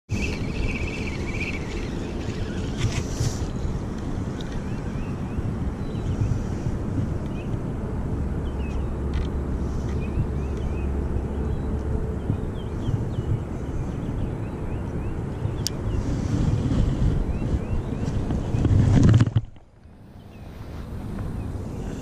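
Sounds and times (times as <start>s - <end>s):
wind buffeting microphone: 0.1s - 22.0s.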